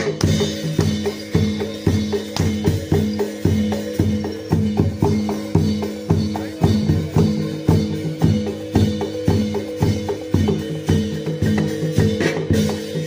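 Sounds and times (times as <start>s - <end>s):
bronze gongs ringing: 0.0s - 13.0s
drums beating: 0.0s - 13.0s.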